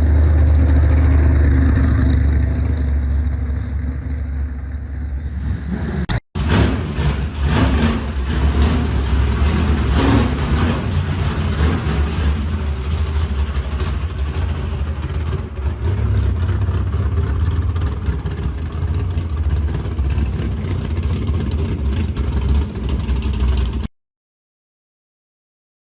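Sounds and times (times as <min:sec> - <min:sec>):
car engine rumbling: 0:00.0 - 0:23.9.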